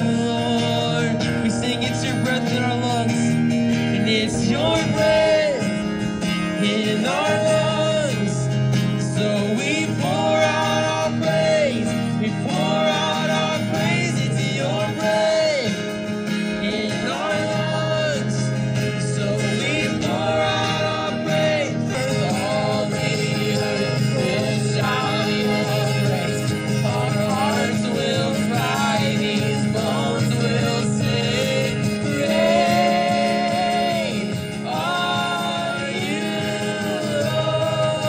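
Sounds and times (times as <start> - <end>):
guitar: 0.0 - 38.0
voices singing slow melody: 0.0 - 38.0.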